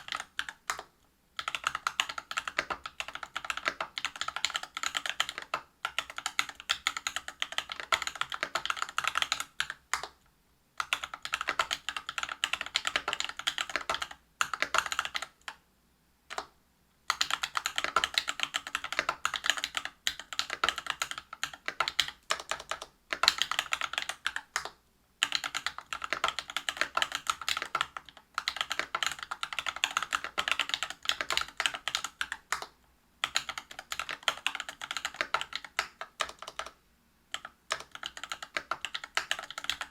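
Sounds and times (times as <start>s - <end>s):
fast typing on mechanical keyboard: 0.0s - 10.2s, 10.8s - 15.6s, 17.1s - 39.9s.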